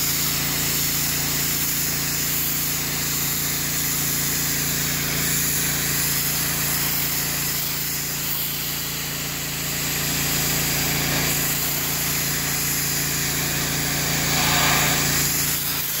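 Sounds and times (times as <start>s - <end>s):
pressure washer pump humming: 0.0s - 16.0s
spray jet hissing: 0.0s - 16.0s.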